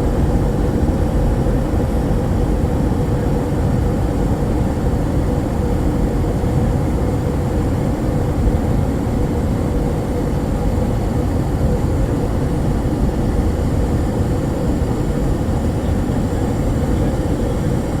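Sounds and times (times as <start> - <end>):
jetliner cabin roar: 0.0 - 18.0.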